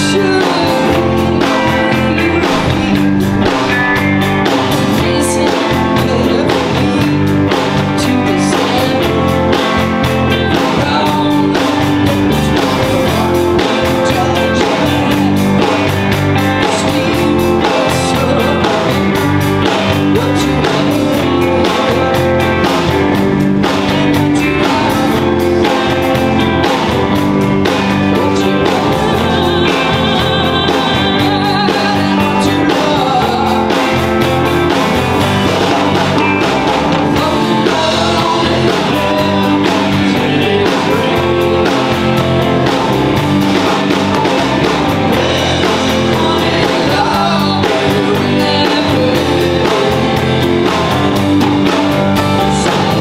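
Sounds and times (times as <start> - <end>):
rock song with guitar and vocals: 0.0 - 53.0.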